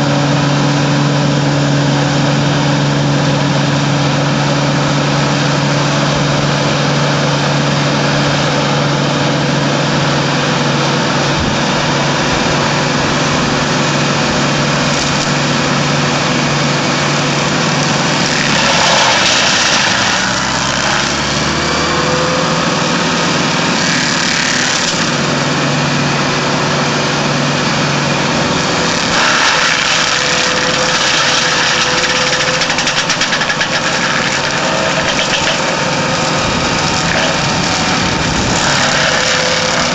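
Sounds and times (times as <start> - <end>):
mulcher shredding brush: 0.0 - 39.9
tractor engine under load: 0.0 - 39.9.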